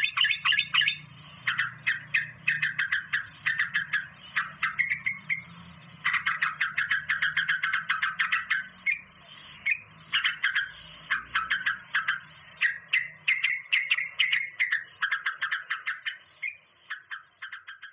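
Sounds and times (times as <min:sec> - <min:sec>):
bird chirping rapidly: 0:00.0 - 0:17.9.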